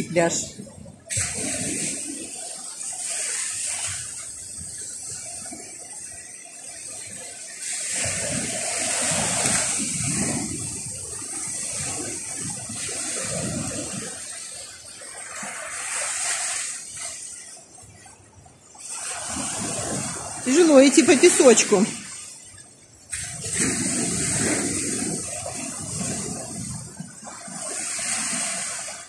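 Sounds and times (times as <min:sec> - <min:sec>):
surf breaking on beach: 0:00.0 - 0:17.8, 0:18.8 - 0:29.0.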